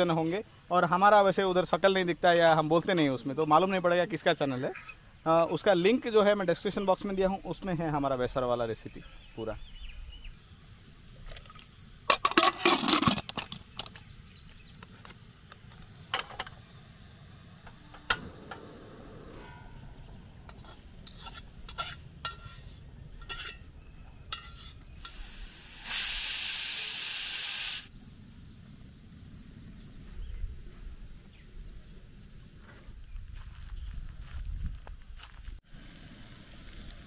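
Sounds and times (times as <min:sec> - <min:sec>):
loud steady hiss: 0:00.0 - 0:37.0.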